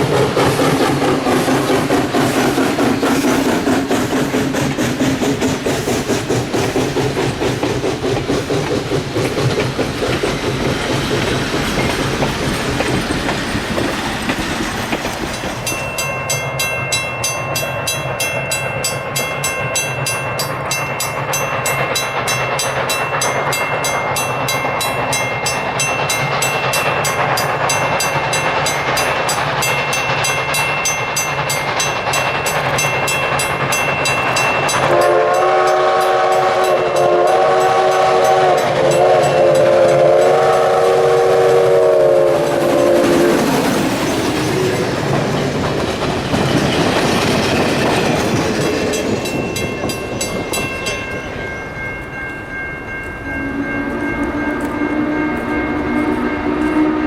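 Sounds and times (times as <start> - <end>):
steam train rumbling: 0.0 - 57.0
locomotive bell ringing: 9.6 - 13.7, 14.4 - 57.0.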